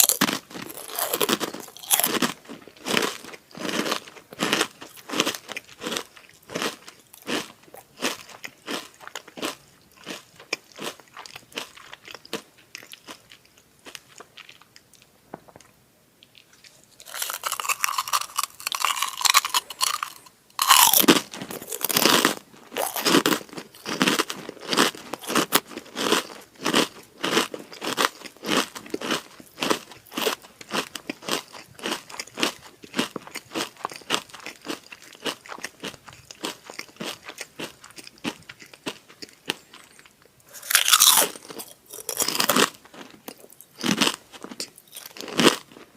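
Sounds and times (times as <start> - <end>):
crunching crispy crackers: 0.0 - 15.7, 16.3 - 45.9.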